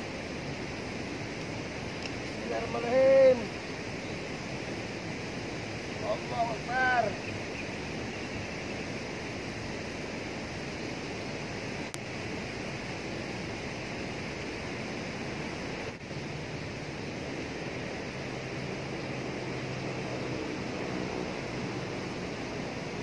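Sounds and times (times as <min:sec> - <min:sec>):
turbulent water rushing: 0:00.0 - 0:23.0.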